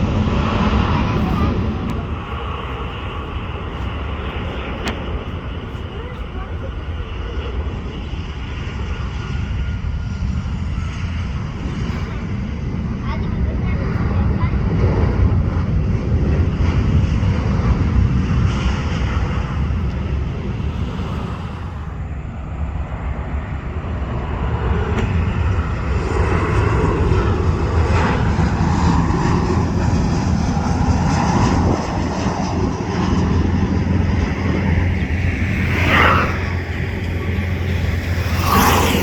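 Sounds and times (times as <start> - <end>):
jet engines running: 0.0 - 39.0.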